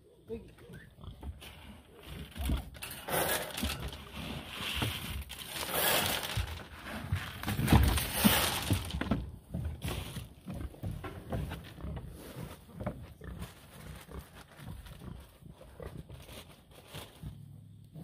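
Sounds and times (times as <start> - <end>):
pig chewing and crunching: 1.0 - 18.0
rustling: 1.0 - 18.0.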